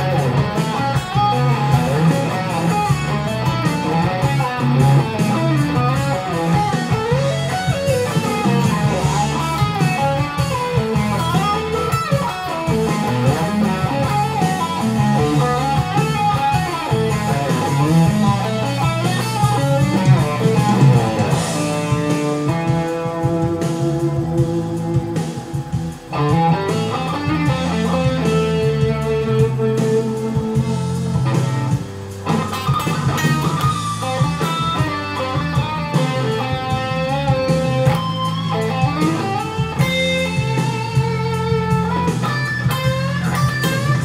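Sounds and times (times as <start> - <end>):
backing track with bass line: 0.0 - 44.0
electric guitar lead runs: 0.0 - 44.0.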